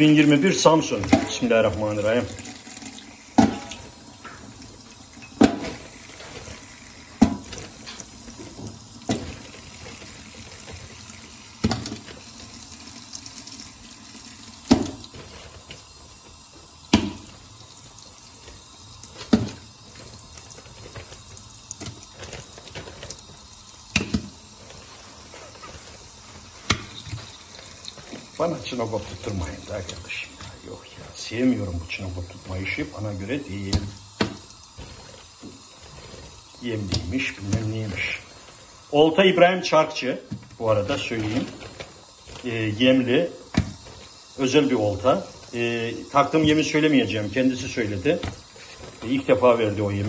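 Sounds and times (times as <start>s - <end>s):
tap water running into metal basin: 0.0s - 50.0s.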